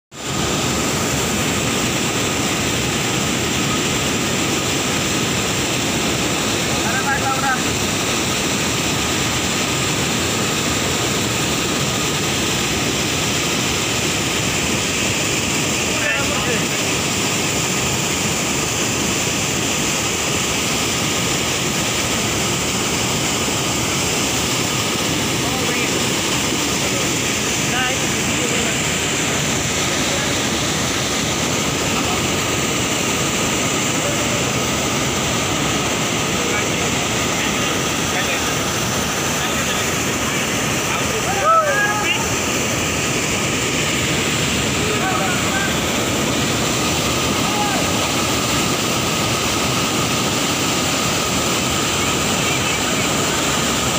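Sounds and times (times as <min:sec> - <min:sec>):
whitewater rushing roar: 0:00.1 - 0:53.9.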